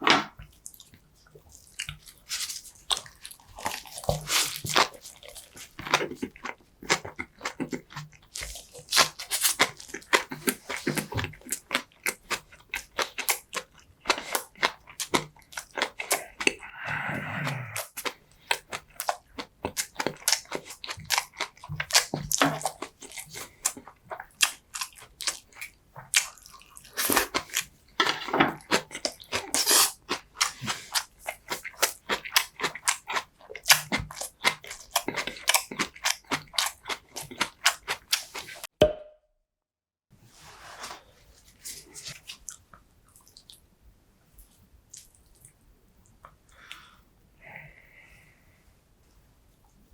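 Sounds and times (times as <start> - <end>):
person chewing: 0.4 - 38.7, 41.7 - 43.6, 44.4 - 46.9.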